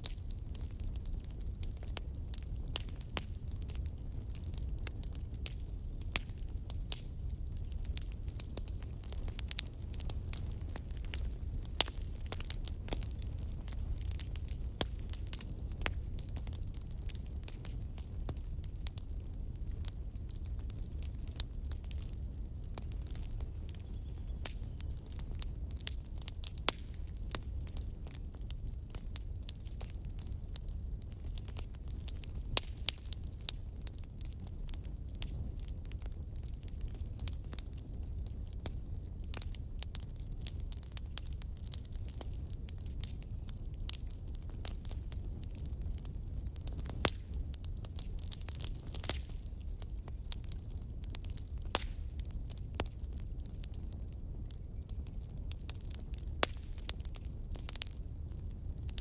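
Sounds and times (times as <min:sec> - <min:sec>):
gravy popping and crackling: 0:00.0 - 0:59.0.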